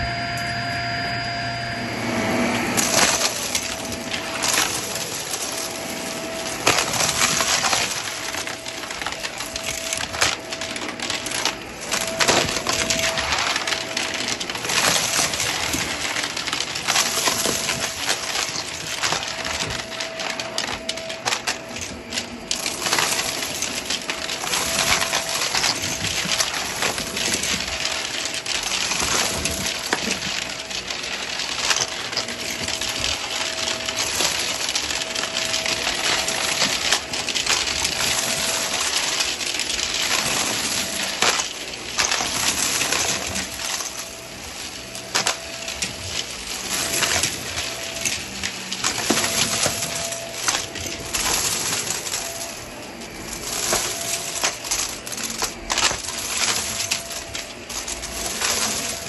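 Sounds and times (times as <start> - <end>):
debris rattling through vacuum: 0.0 - 59.0
faint steady whine: 0.0 - 59.0
vacuum cleaner on carpet: 0.0 - 59.0.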